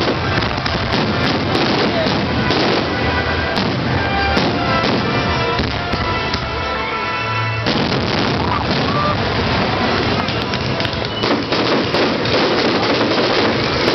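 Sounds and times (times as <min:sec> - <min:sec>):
sharp bangs: 0:00.0 - 0:06.8, 0:07.4 - 0:13.9
fireworks bursting and crackling: 0:00.0 - 0:13.9.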